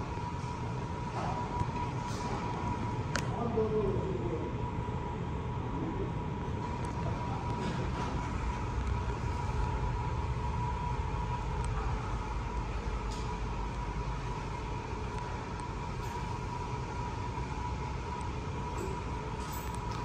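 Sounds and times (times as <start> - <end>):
shop machinery rumble: 0.0 - 20.0
thin constant whine: 0.0 - 20.0.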